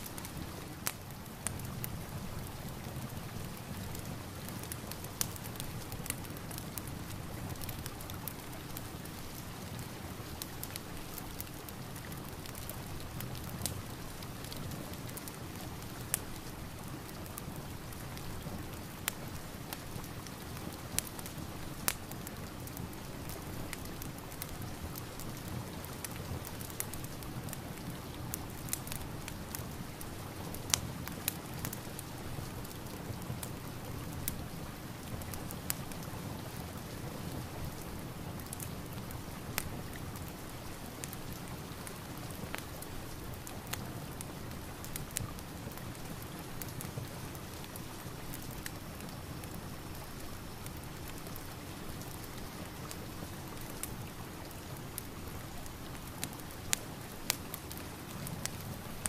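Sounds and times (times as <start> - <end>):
fire crackling and popping: 0.0 - 59.0
steady rain: 0.0 - 59.0.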